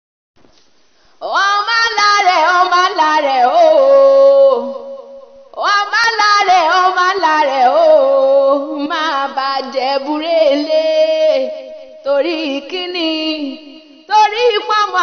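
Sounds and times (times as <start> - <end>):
solo voice singing: 1.2 - 15.0.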